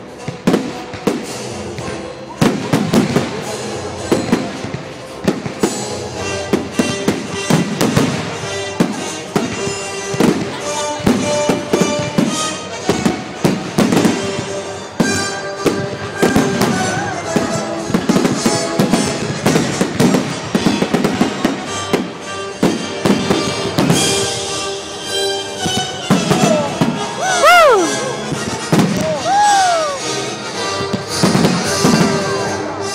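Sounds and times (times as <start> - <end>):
music playing: 0.0 - 32.9.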